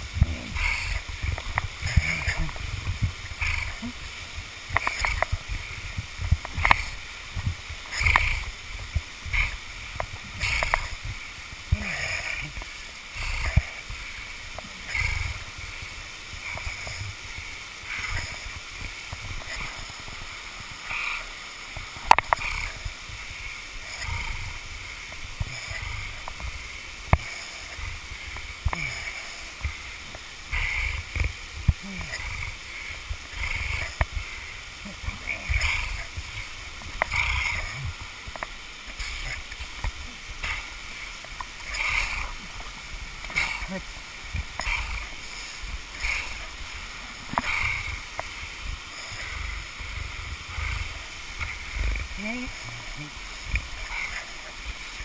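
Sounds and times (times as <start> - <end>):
waterfall splashing over rock: 0.0 - 55.0.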